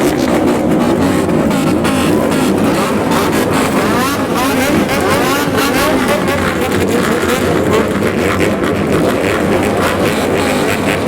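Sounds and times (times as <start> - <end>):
motorcycles revving together: 0.0 - 11.0.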